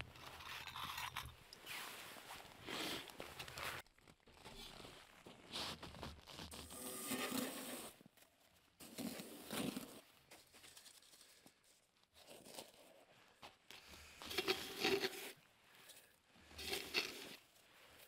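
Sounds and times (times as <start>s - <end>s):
camping gear rustling and crinkling: 0.0s - 18.0s.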